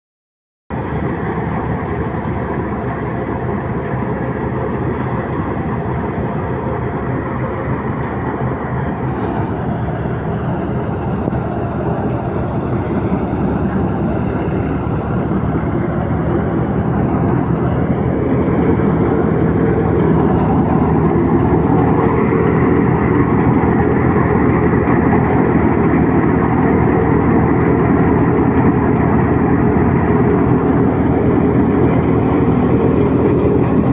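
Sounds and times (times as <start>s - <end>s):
tractor engine running: 0.7s - 33.9s.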